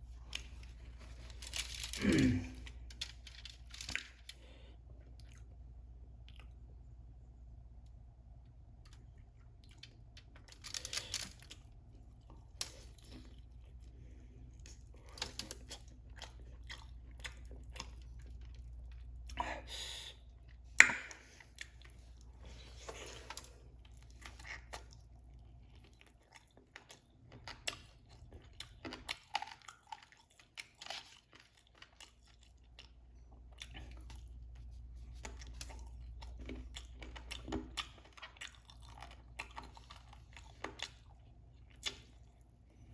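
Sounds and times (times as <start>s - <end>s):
chewing and crunching food: 0.0s - 42.9s
low steady hum: 0.0s - 42.9s.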